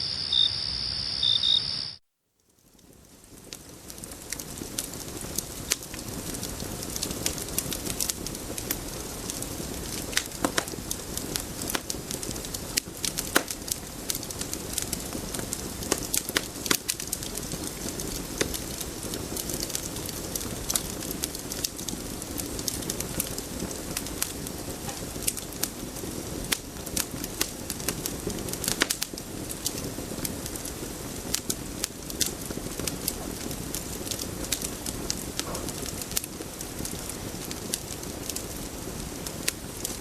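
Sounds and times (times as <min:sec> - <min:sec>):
sharp crackles and clicks: 0:00.1 - 0:40.0.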